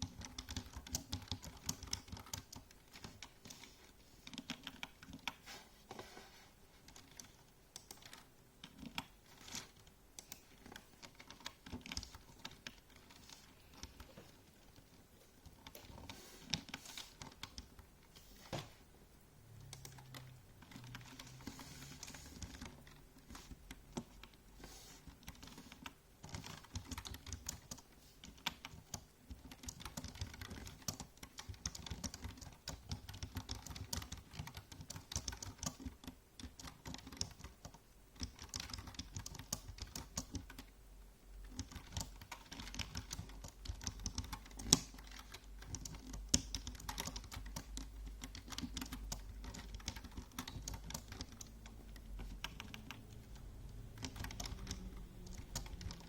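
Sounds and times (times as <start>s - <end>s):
keyboard typing: 0.0s - 5.4s, 6.8s - 18.7s, 19.5s - 40.7s, 41.4s - 56.0s.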